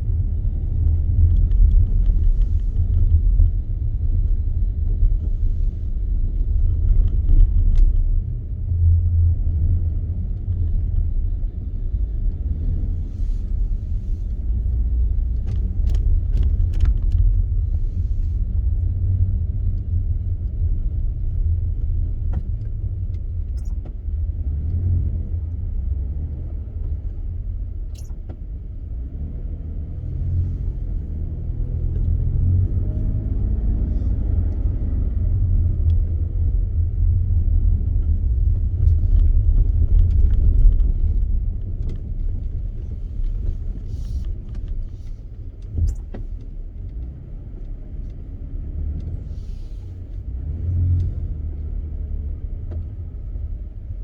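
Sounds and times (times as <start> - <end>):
car driving rumble inside cabin: 0.0 - 54.0.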